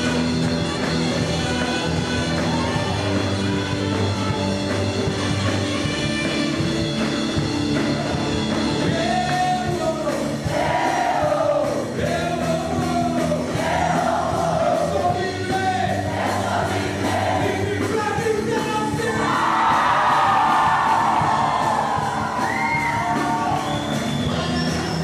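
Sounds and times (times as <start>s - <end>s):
rock song with singing: 0.0s - 25.0s.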